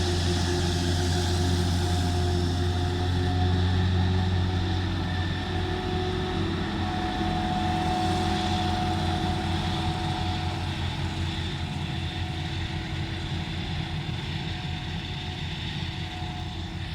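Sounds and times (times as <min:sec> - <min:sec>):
deep engine drone: 0:00.0 - 0:16.9
heavy farm machinery running: 0:00.0 - 0:16.9
steady machine whine: 0:00.0 - 0:16.9.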